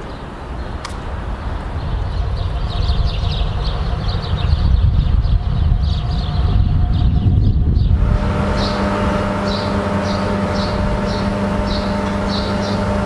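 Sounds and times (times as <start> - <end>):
deep rumble: 1.0 - 13.0
electric hum of held tones: 1.8 - 13.0.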